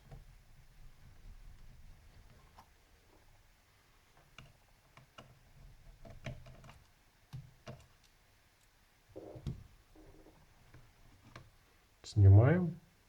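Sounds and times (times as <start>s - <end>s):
faint clicks and light knocks: 0.0s - 11.6s.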